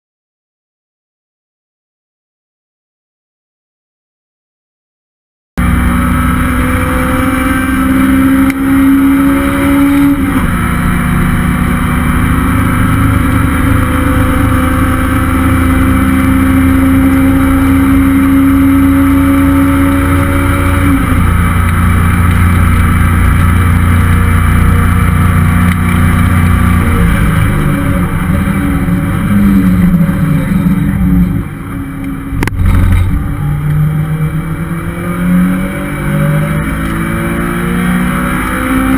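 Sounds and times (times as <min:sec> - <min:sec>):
car engine at high revs: 0:05.6 - 0:38.9.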